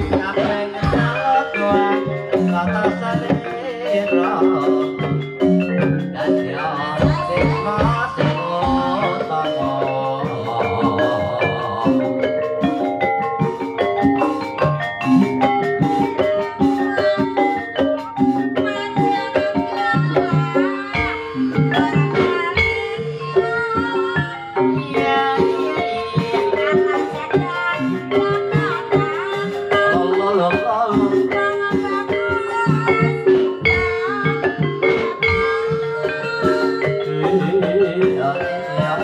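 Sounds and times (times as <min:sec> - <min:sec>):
drum strokes: 0:00.0 - 0:39.0
sliding melodic line: 0:00.0 - 0:39.0
tuned mallet percussion: 0:00.0 - 0:39.0.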